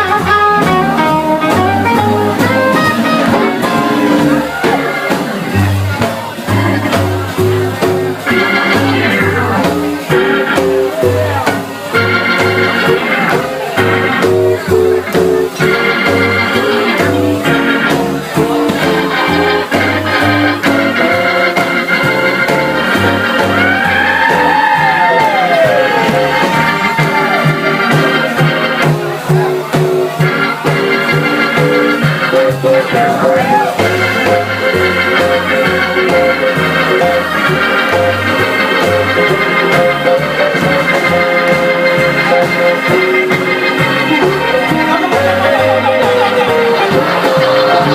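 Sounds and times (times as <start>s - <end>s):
bass line: 0.0s - 47.9s
drums: 0.0s - 47.9s
organ chords: 0.0s - 47.9s.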